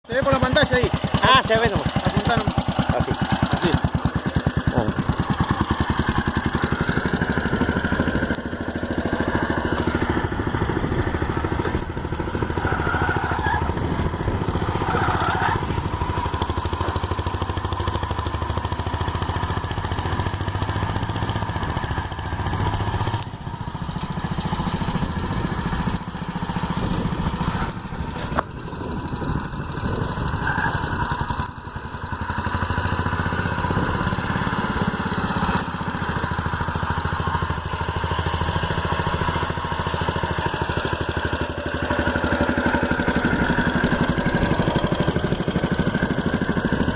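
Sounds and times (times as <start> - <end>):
small tractor engine running: 0.0 - 46.9.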